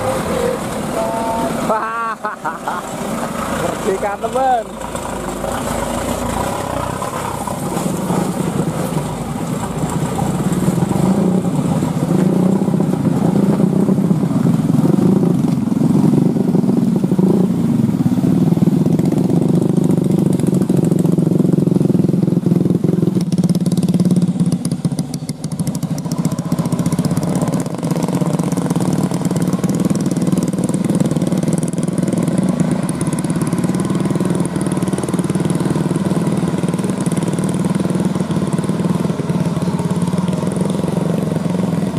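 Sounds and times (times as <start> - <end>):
diesel truck engine running: 0.0 - 41.9.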